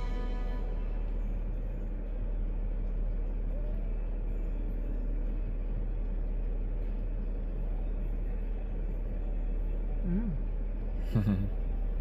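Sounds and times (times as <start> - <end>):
vehicle running low rumble: 0.0 - 12.0.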